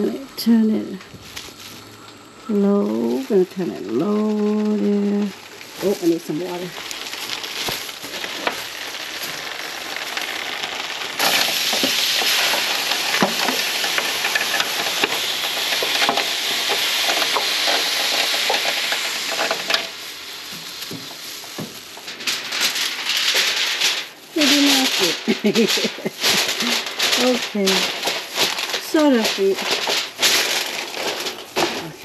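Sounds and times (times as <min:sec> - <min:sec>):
fish sizzling in a pan: 0:01.2 - 0:32.0.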